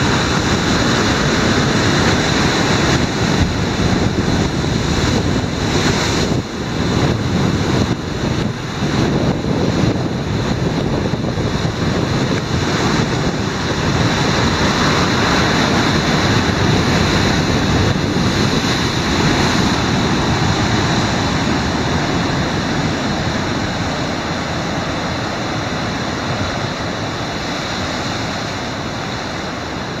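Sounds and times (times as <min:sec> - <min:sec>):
ocean surf breaking on rocks: 0:00.0 - 0:30.0.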